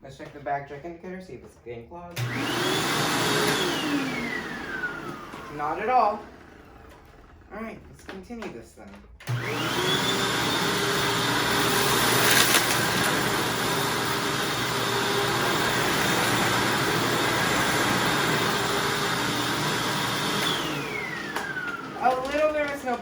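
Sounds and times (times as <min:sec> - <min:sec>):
vacuum cleaner motor whine: 0:02.2 - 0:07.7, 0:09.2 - 0:23.0.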